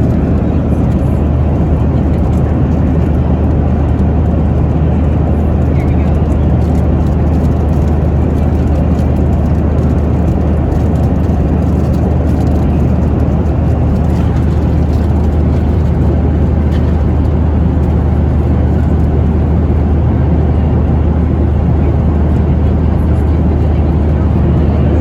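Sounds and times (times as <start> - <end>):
jet engine roar in cabin: 0.0 - 25.0.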